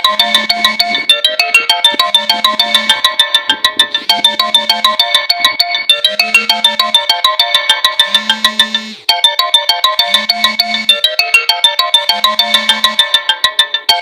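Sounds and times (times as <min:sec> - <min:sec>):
phone ringtone: 0:00.0 - 0:14.0.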